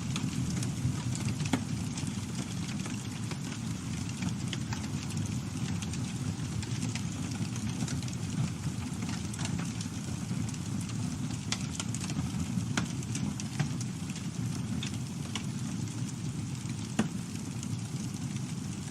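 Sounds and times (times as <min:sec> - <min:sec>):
campfire crackling: 0:00.0 - 0:18.9.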